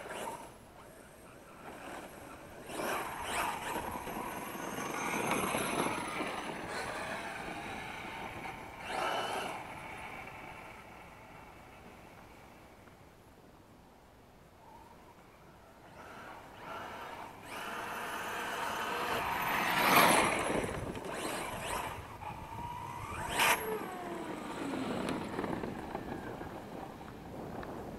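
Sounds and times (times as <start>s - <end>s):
rc car motor whining: 0.0s - 11.6s, 15.8s - 27.7s.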